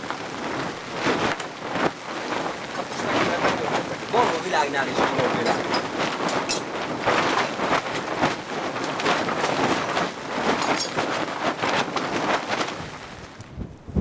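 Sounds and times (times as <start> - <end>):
strong gusty wind: 0.0 - 14.0
wind buffeting microphone: 0.0 - 14.0.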